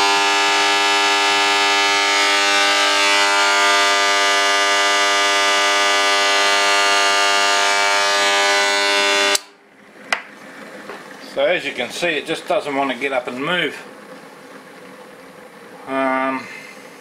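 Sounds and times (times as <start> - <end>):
loud electrical motor buzz: 0.0 - 17.0.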